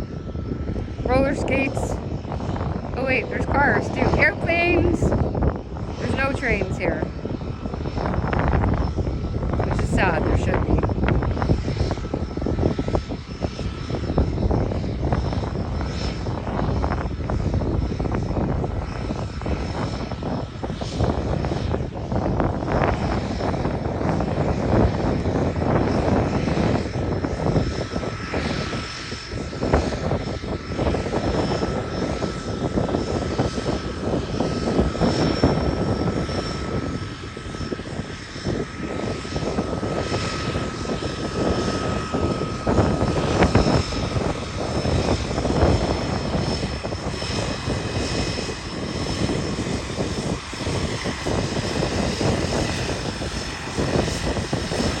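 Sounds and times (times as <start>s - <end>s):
floatplane engine and propeller: 0.0s - 55.0s.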